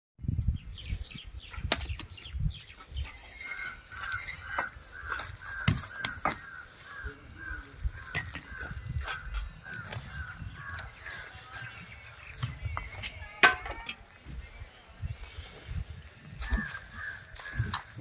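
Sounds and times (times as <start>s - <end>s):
wind rumble on microphone: 0.2s - 3.4s, 4.0s - 13.1s, 14.2s - 18.0s
birds chirping: 0.2s - 18.0s.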